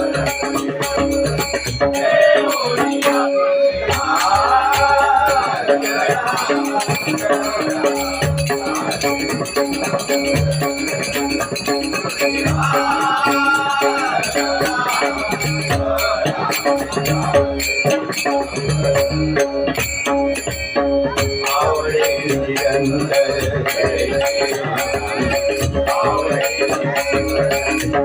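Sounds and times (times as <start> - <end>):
drum beating a rhythm: 0.0 - 28.0
small hand cymbals jingling: 0.0 - 28.0.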